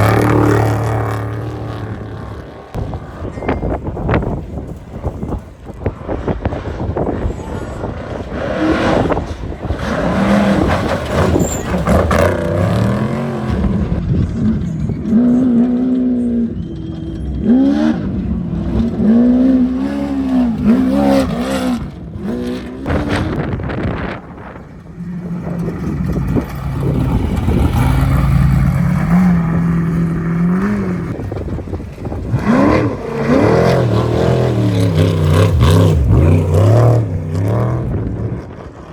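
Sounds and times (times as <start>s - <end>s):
race vehicle engines revving: 0.0s - 38.9s.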